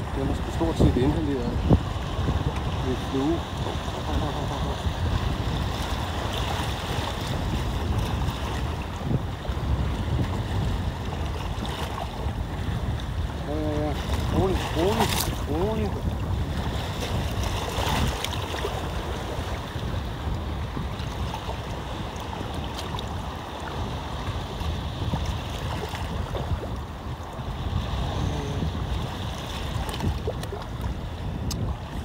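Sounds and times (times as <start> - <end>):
sea water lapping at shore: 0.0 - 32.0
wind buffeting microphone: 0.0 - 32.0.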